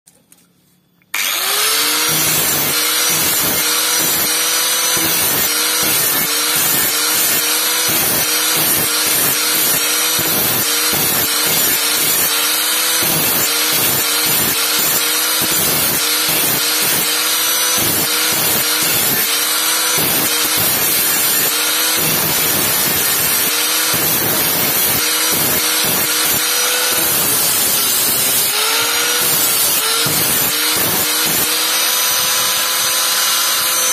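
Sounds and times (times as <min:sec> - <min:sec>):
angle grinder grinding metal: 0:01.2 - 0:33.9.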